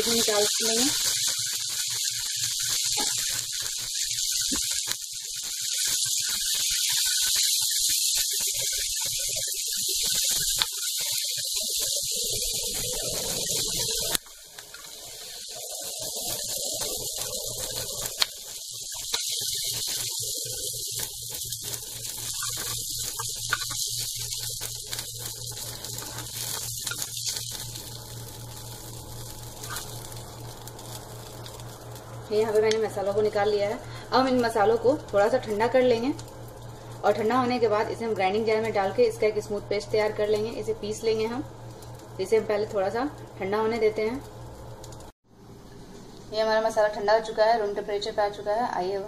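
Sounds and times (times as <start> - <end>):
vegetables sizzling in hot oil: 0.0 - 45.2.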